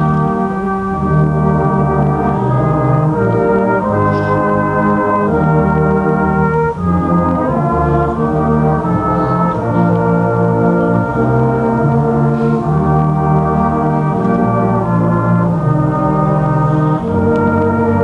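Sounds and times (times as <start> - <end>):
brass band playing held chords: 0.0 - 18.0.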